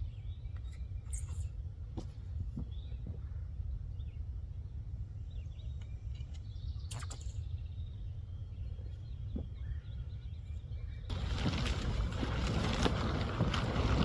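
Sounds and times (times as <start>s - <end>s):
small birds chirping: 0.0s - 13.1s
wind rumbling on microphone: 0.0s - 14.0s.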